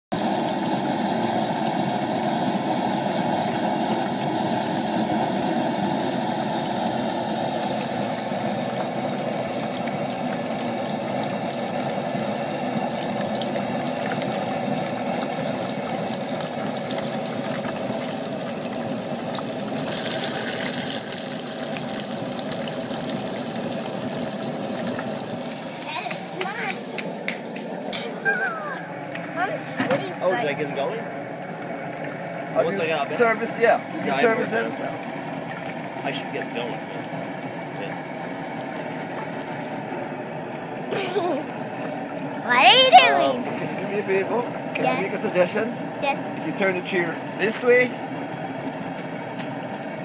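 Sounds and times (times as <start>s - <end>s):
oil bubbling hard: 0.1s - 50.0s.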